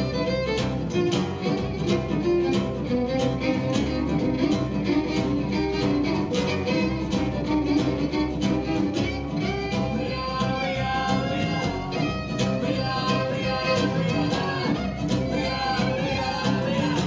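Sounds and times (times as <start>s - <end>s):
fiddle: 0.0s - 17.0s
strummed acoustic guitars: 0.0s - 17.0s
upright bass: 0.0s - 17.0s.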